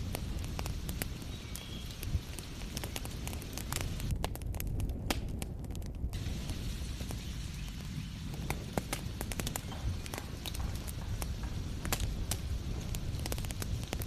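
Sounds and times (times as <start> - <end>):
rain hiss: 0.0 - 4.1, 6.2 - 14.0
wood fire crackling and popping: 0.0 - 14.0.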